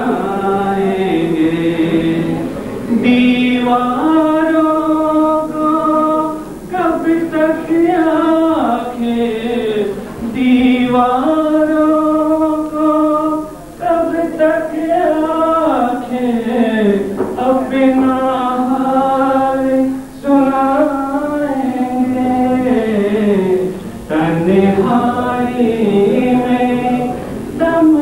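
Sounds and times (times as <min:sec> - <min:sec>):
voices singing slow melody: 0:00.0 - 0:28.0.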